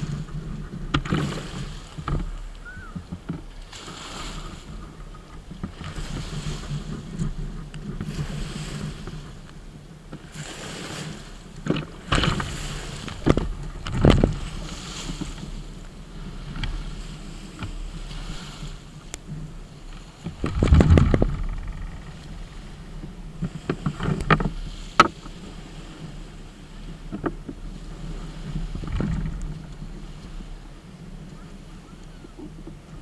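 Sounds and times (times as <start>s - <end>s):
hull slapping into waves: 0.0s - 33.0s
water splashing against hull: 0.0s - 33.0s.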